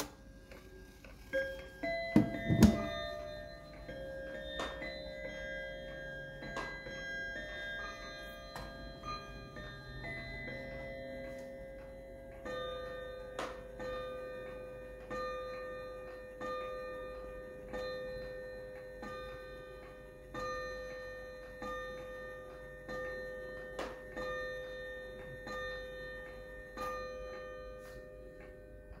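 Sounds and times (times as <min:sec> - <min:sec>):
clock quarter chime: 0:00.0 - 0:29.0
clock striking on chime rods: 0:00.0 - 0:29.0.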